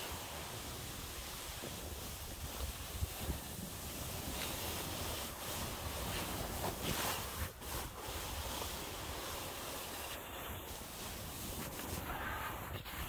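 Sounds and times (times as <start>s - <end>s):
snowboard scraping over snow: 0.0s - 13.0s.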